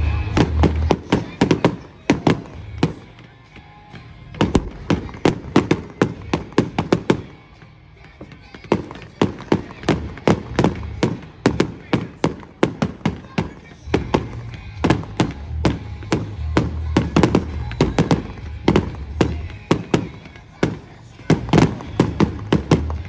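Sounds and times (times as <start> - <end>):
fireworks bangs and cracks: 0.0 - 23.0.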